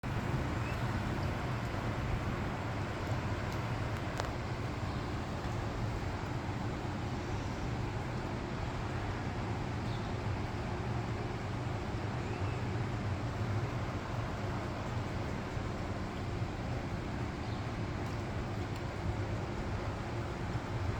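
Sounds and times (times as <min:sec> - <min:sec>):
heavy rain falling: 0:00.0 - 0:12.2, 0:12.8 - 0:20.9.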